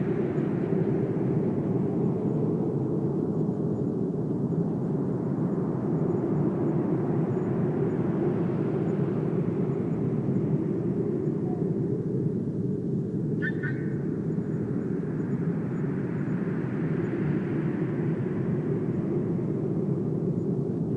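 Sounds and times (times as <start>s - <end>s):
low outdoor ambience rumble: 0.0s - 20.9s.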